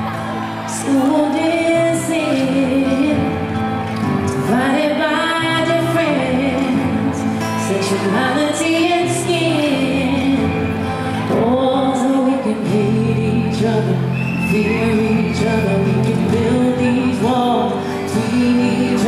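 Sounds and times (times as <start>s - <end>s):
woman singing long held notes: 0.7s - 3.6s, 4.3s - 19.0s.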